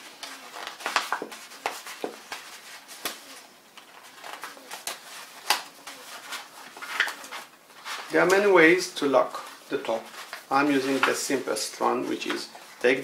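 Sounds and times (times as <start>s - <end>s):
folded paper crinkling: 0.0s - 13.0s.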